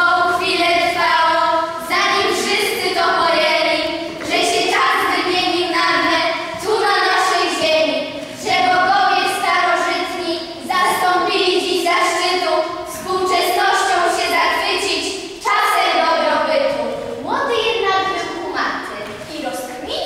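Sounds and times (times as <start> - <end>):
child singing: 0.0 - 18.9.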